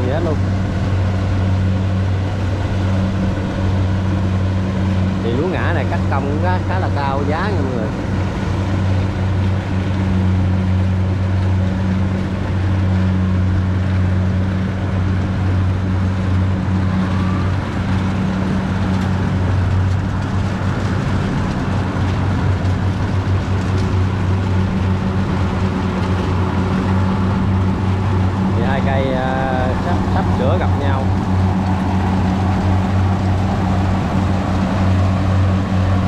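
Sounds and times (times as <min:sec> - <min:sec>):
combine harvester diesel engine: 0:00.0 - 0:36.0.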